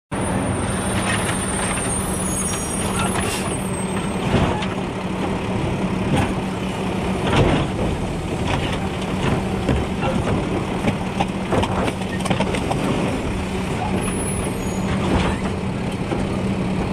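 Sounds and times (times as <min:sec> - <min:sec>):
garbage truck running: 0:00.1 - 0:16.9.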